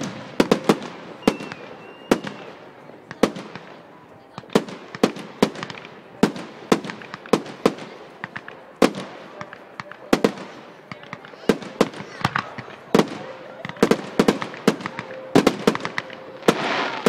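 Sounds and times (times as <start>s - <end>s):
fireworks bangs with echo: 0.0s - 17.0s.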